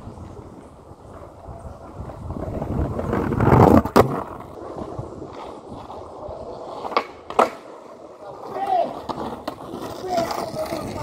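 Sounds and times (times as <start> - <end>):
skateboard clack: 0.0 - 11.0
skateboard wheels rolling on asphalt: 0.0 - 11.0.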